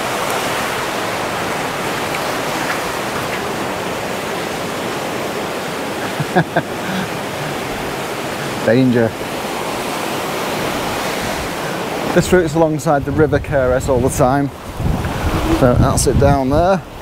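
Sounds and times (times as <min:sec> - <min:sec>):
rushing mountain water: 0:00.0 - 0:17.0.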